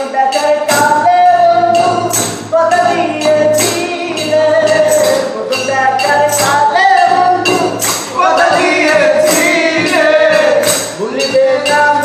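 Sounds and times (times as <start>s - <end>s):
group singing: 0.0s - 12.0s
tambourine jingling: 0.0s - 12.0s.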